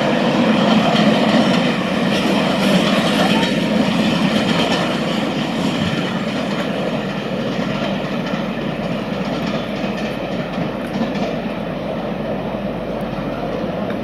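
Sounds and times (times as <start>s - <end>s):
train wheels clattering over rail joints: 0.0s - 14.0s.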